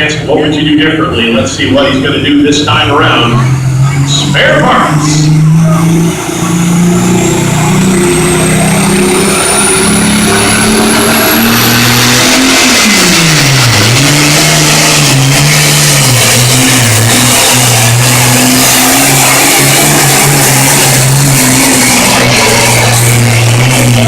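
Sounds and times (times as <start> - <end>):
diesel tractor engine under load: 0.0 - 24.0
turbo whine: 0.0 - 24.0.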